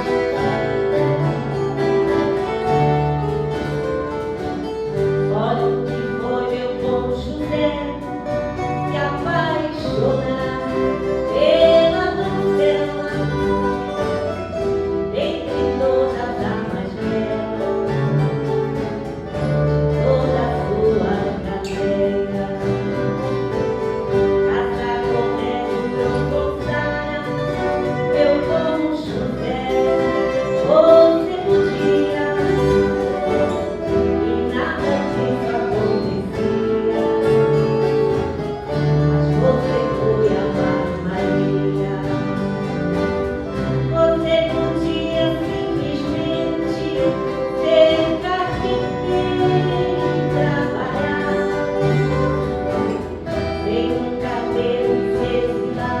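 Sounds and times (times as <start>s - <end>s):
folk guitars playing slow song: 0.0s - 56.0s.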